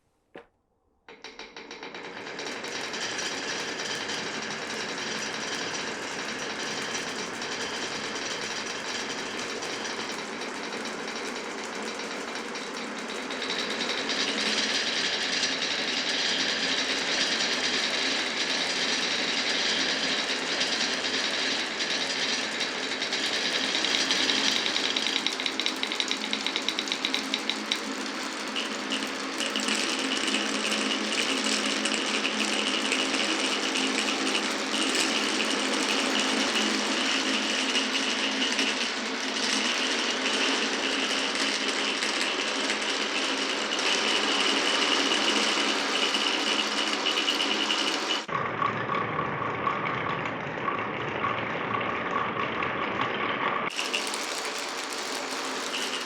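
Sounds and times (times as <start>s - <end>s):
marbles rattling down marble run: 1.2s - 48.3s, 53.7s - 56.0s.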